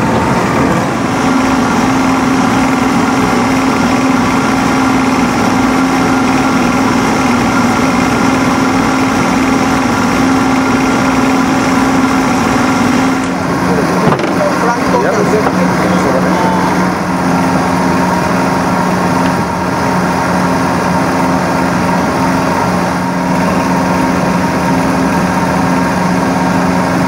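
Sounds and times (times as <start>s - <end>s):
small engine idling: 0.0s - 27.0s.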